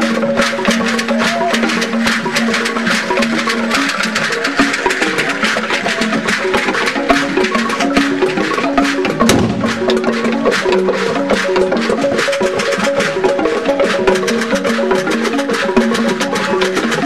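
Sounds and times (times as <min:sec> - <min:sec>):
fast percussion and drums: 0:00.0 - 0:17.0
melody of short held notes: 0:00.0 - 0:17.0.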